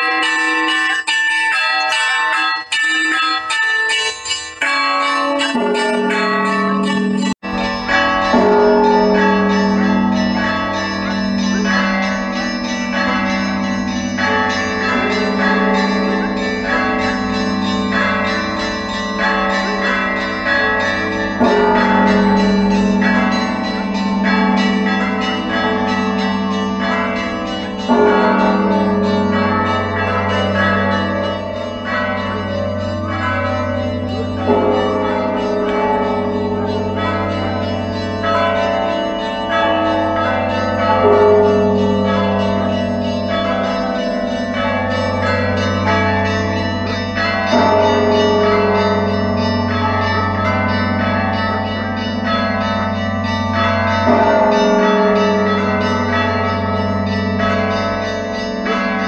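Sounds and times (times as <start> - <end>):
church bells ringing: 0.0 - 59.0
heavy bell strike: 3.5 - 59.0.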